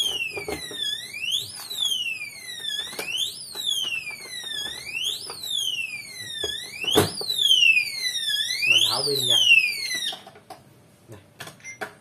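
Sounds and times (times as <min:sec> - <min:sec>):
alarm siren wailing: 0:00.0 - 0:10.3.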